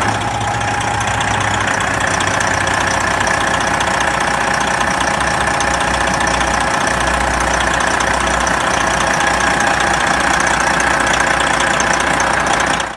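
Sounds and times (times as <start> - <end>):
diesel truck engine idling: 0.0 - 12.9.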